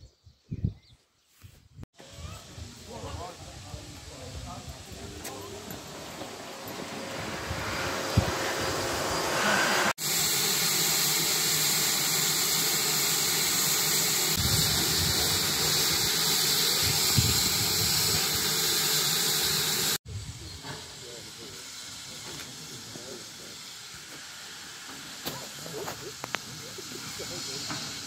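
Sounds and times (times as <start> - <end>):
steam locomotive hissing steam: 2.0 - 28.0.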